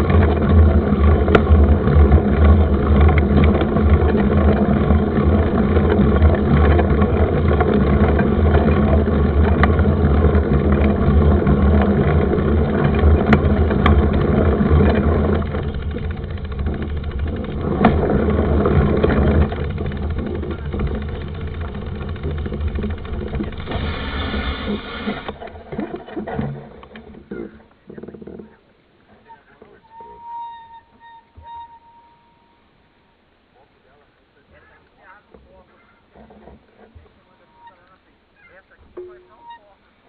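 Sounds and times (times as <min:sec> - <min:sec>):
rattling clicks: 0:00.0 - 0:32.5
mountain bike rumbling: 0:00.0 - 0:40.0
tyres on trail: 0:00.0 - 0:40.0.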